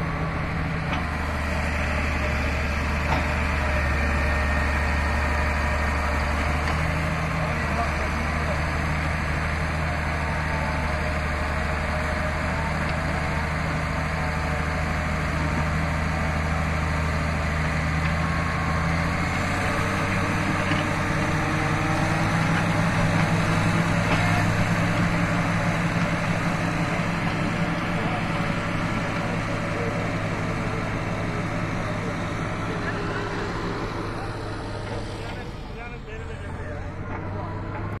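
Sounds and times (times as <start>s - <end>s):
bulldozer diesel engine running: 0.0s - 38.0s.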